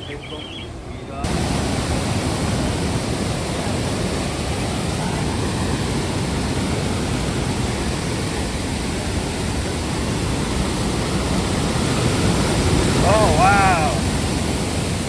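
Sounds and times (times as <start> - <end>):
waterfall roaring: 1.1 - 15.0.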